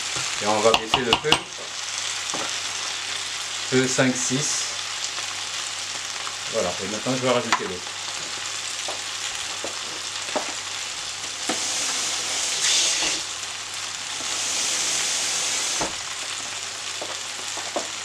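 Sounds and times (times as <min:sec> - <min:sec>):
curry sizzling in a pot: 0:00.0 - 0:18.0.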